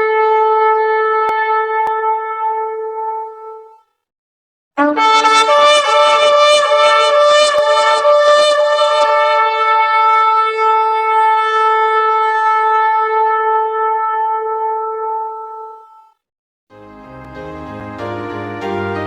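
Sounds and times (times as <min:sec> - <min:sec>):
horn-like wind instrument: 0:00.0 - 0:04.0, 0:04.8 - 0:19.0.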